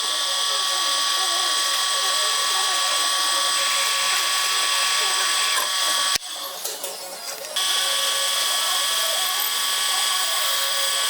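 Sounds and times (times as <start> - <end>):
small electric drill running: 0.0 - 11.0.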